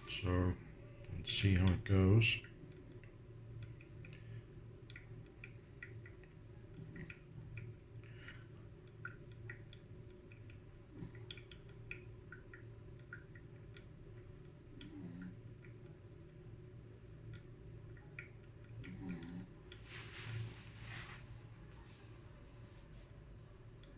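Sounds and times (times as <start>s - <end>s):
coffee dripping: 0.0s - 23.9s
low steady hum: 0.0s - 23.9s.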